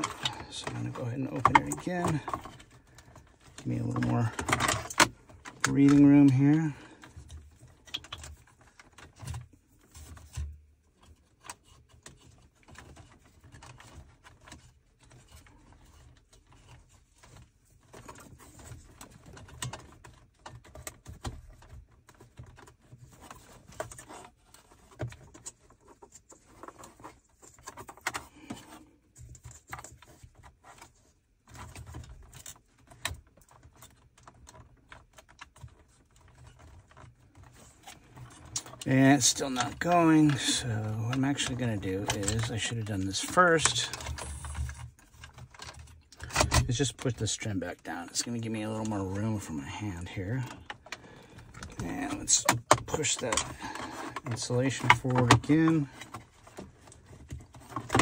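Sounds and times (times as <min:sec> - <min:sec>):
hands rustling and tapping cable: 0:00.0 - 0:58.0.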